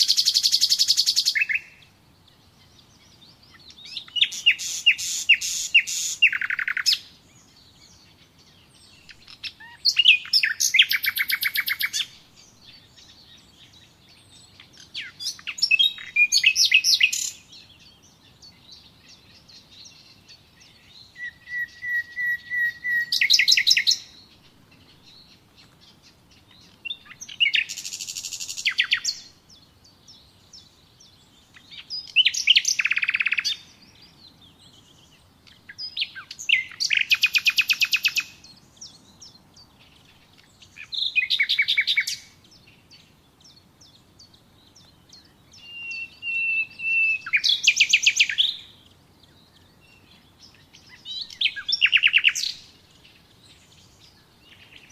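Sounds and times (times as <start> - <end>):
songbird singing trills: 0.0 - 54.9.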